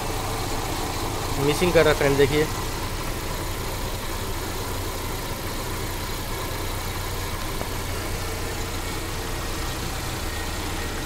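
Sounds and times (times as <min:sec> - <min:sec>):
car engine idling with misfire: 0:00.0 - 0:11.0.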